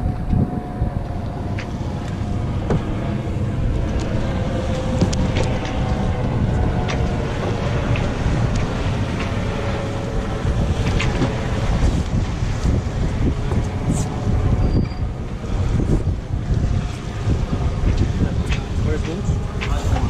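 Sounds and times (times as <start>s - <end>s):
rush of wind and water: 0.0s - 20.0s
wind buffeting microphone: 0.0s - 20.0s.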